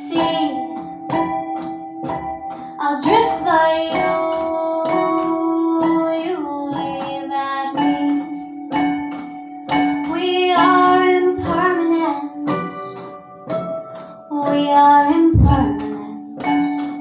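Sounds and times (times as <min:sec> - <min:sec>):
woman singing a slow song: 0:00.0 - 0:01.2, 0:02.6 - 0:08.9, 0:09.7 - 0:13.2, 0:14.3 - 0:17.0
instrumental accompaniment: 0:00.0 - 0:17.0.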